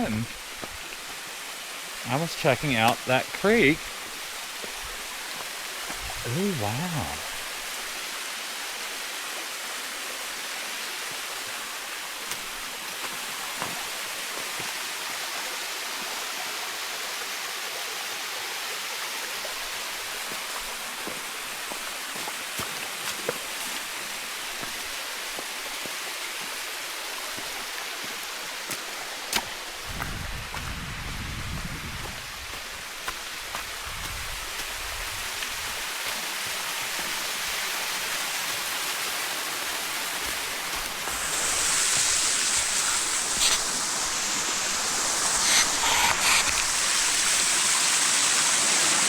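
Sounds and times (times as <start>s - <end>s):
fast-flowing creek water: 0.0s - 49.0s.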